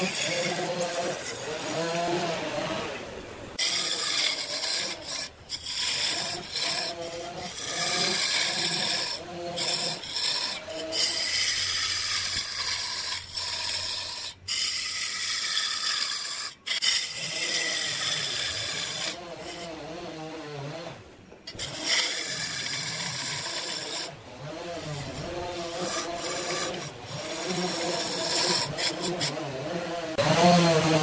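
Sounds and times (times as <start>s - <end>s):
lathe tool shaving wood: 0.0s - 31.0s.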